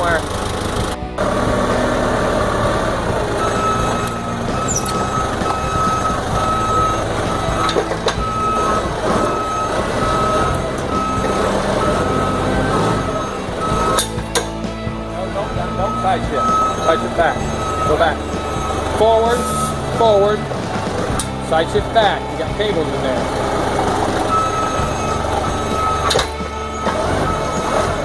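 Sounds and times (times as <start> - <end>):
forklift engine running: 0.0 - 28.0
back-up alarm beeping: 1.2 - 28.0.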